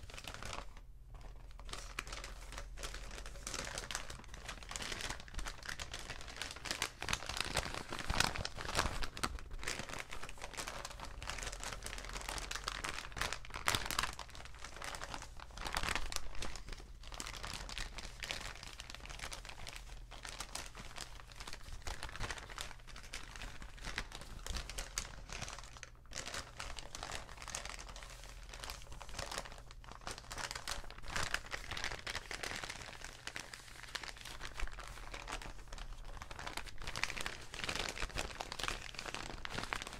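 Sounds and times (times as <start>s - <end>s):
paper bags crinkling: 0.0s - 39.9s.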